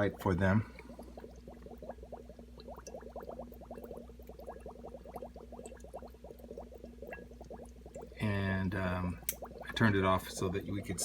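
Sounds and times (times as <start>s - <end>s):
air bubbling through water: 0.0s - 11.0s
steady low hum: 0.0s - 11.0s.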